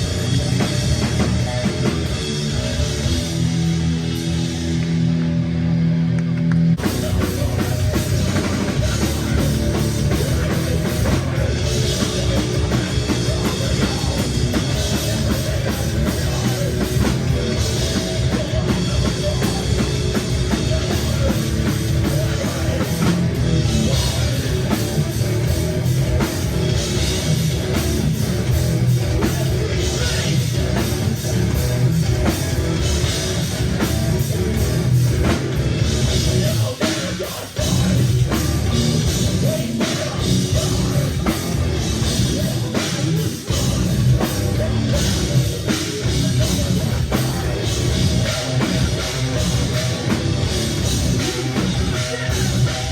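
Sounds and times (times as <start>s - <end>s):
live heavy rock band: 0.0s - 52.9s.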